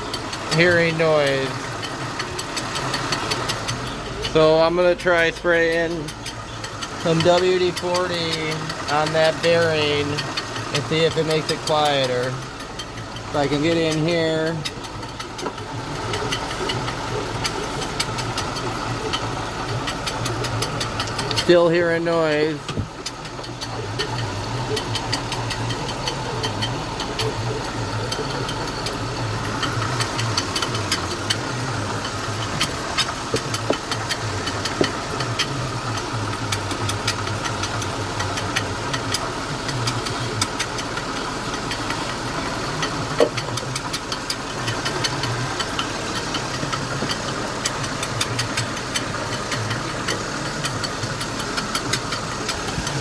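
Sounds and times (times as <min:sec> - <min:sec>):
car engine idling: 0:00.0 - 0:53.0
light irregular ticks: 0:00.0 - 0:53.0.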